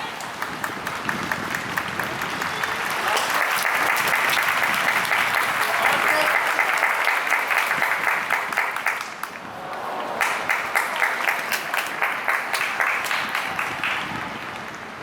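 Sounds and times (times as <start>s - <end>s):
crowd clapping in unison: 0.0s - 15.0s.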